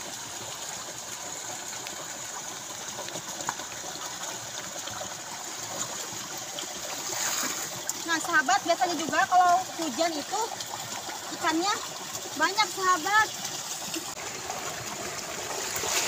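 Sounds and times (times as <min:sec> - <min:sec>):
water pouring from culvert: 0:00.0 - 0:16.0.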